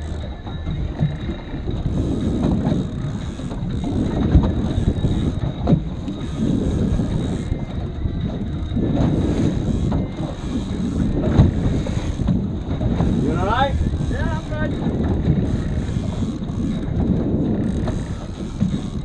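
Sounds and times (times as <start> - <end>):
boat motor rumbling: 0.0 - 19.0
water along hull: 0.0 - 19.0
wind buffeting microphone: 0.0 - 19.0.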